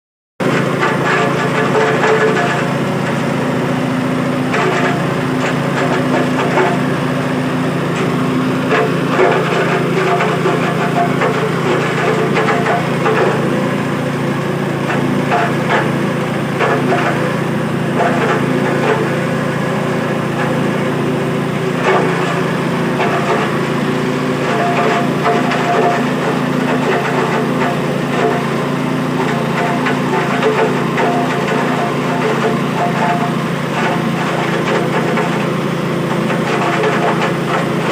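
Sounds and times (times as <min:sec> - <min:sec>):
crackling and rattling of grinding: 0:00.4 - 0:37.9
grinding machine motor hum: 0:00.4 - 0:37.9.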